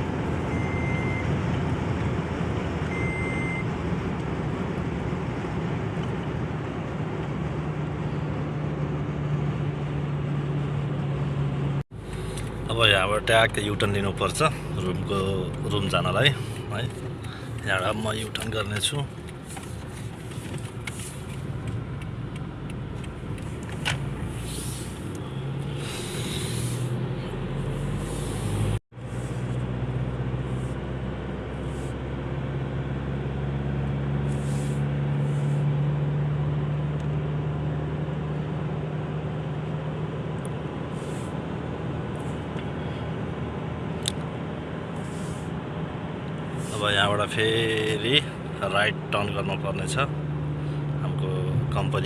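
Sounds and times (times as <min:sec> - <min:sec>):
engine and road noise inside cab: 0:00.0 - 0:52.0.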